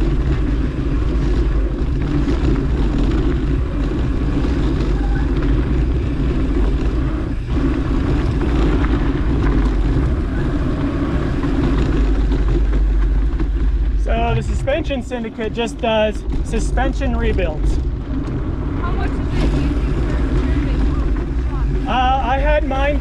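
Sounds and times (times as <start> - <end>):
bike rolling on dirt trail: 0.0 - 23.0
wind on microphone: 0.0 - 23.0.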